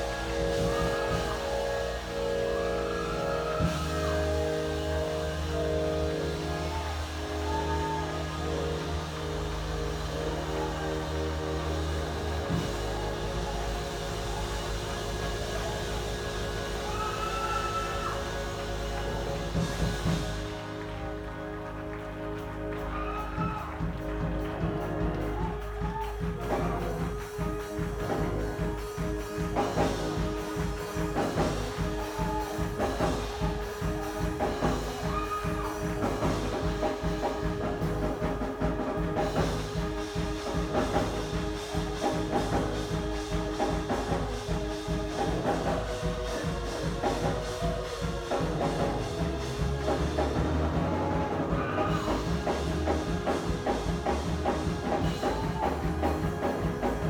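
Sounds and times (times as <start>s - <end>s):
drum kit beat: 0.0s - 57.0s
sustained held chords: 0.0s - 57.0s.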